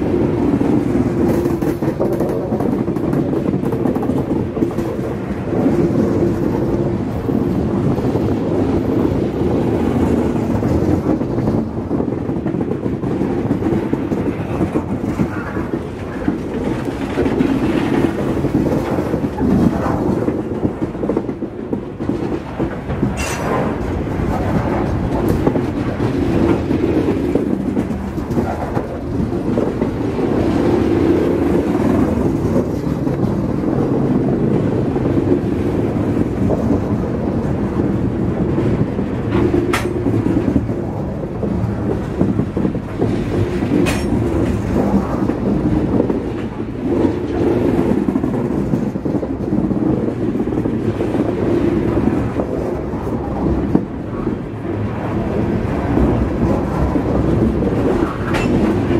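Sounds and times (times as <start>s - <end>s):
steel train wheels on rails: 0.0s - 58.9s.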